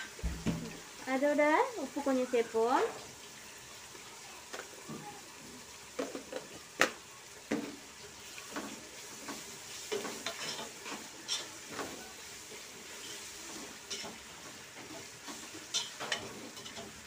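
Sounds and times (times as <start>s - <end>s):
onions frying with faint sizzle: 0.0s - 17.0s.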